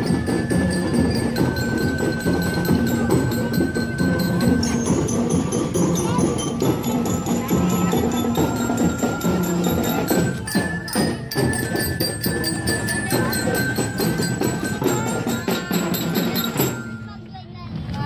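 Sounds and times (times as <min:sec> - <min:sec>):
steady drumming: 0:00.0 - 0:17.0
bell lyres playing a tune: 0:00.0 - 0:17.6.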